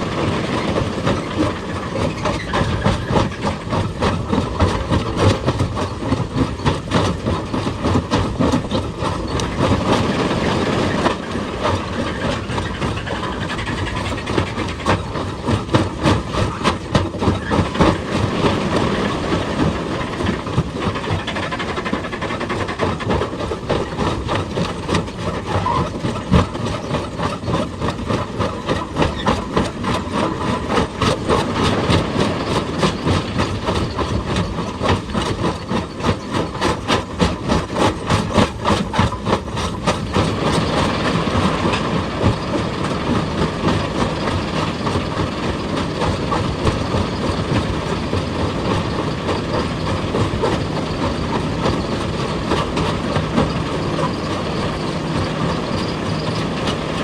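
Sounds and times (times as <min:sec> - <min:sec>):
excavator mechanical noise: 0:00.0 - 0:57.0.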